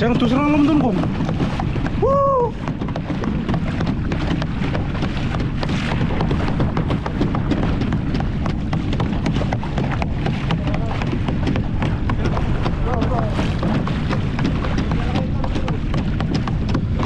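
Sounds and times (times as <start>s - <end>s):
water splashing along boat hull: 0.0s - 17.0s
wind buffeting microphone: 0.0s - 17.0s.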